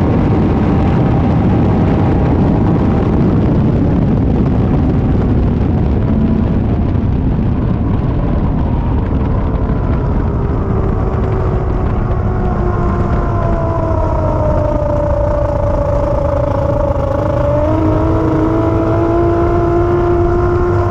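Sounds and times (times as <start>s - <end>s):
powerboat engine winding down: 0.0s - 20.9s
rush of wind and water: 0.0s - 20.9s.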